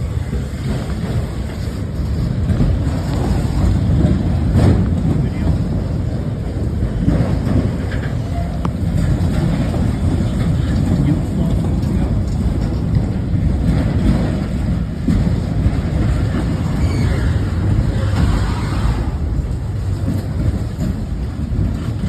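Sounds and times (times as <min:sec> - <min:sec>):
freight train rumbling: 0:00.0 - 0:22.0
wind noise on microphone: 0:00.0 - 0:22.0.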